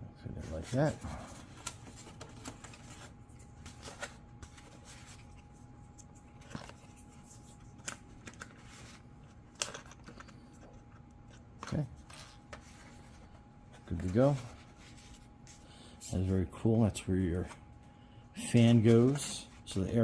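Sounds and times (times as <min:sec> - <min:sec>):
light rustling of handling: 0:00.4 - 0:16.6, 0:18.5 - 0:20.0.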